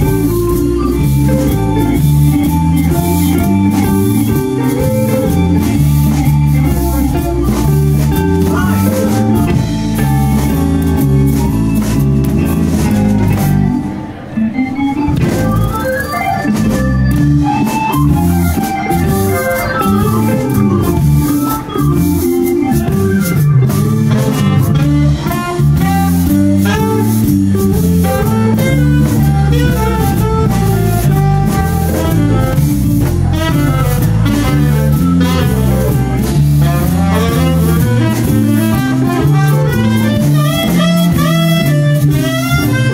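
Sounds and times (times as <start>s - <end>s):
drums: 0.0s - 42.9s
electric guitar: 0.0s - 42.9s
organ keyboard: 0.0s - 42.9s.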